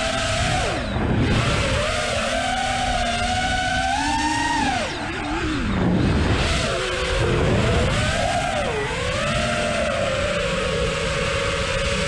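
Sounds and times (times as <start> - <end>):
quadcopter propellers whining: 0.0 - 12.0.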